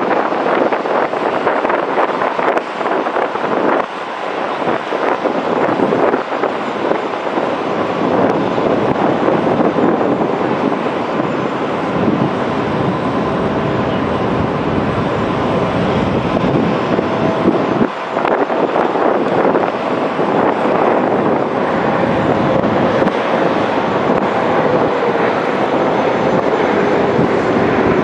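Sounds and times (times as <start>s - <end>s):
jet engine roar with thin whine: 0.0s - 28.0s.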